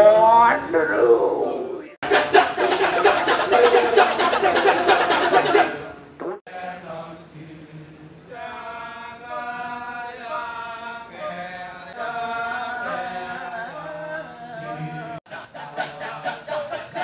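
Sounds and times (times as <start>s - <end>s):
low steady vocal hum: 1.4s - 17.0s
voices chanting: 2.0s - 17.0s.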